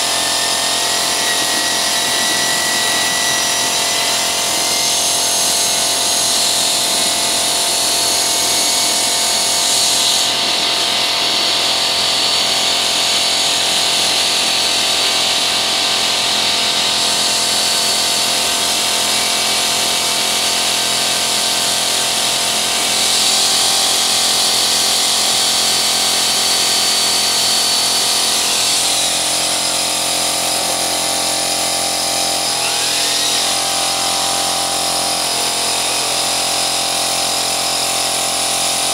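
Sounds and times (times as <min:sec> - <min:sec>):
electric drill mixing cement: 0:00.0 - 0:38.9.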